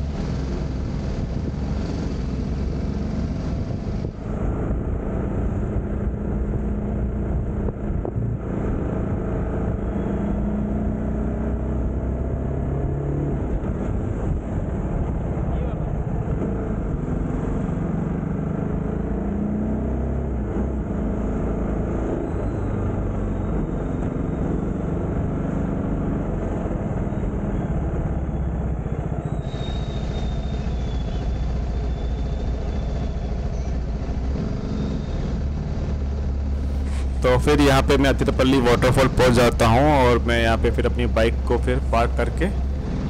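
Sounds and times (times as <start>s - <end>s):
low rumble of road noise: 0.0s - 43.0s.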